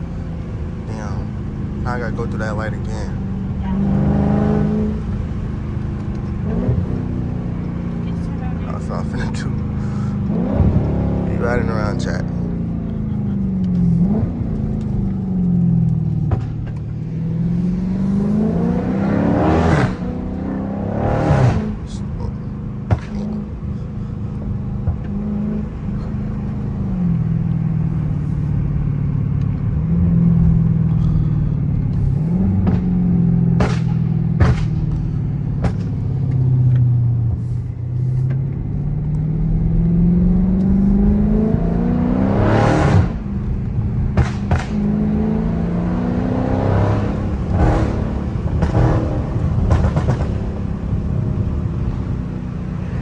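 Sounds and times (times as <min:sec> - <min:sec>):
exhaust pops and crackles: 0:00.0 - 0:52.7
car engine accelerating: 0:00.0 - 0:53.0.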